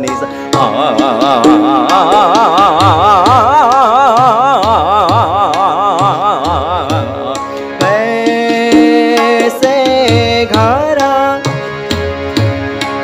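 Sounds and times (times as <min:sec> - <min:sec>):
harmonium chord: 0:00.0 - 0:13.0
person singing fast runs: 0:00.3 - 0:11.6
tabla strokes: 0:00.5 - 0:13.0.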